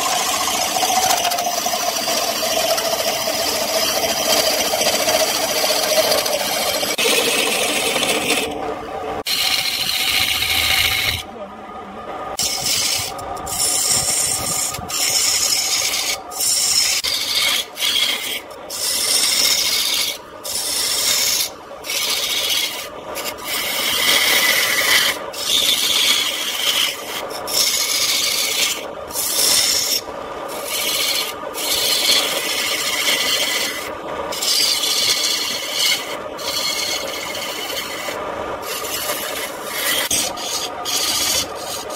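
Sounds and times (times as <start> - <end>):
gouge cutting wood on lathe: 0.0 - 11.3, 12.3 - 41.9
lathe motor hum: 0.0 - 41.9.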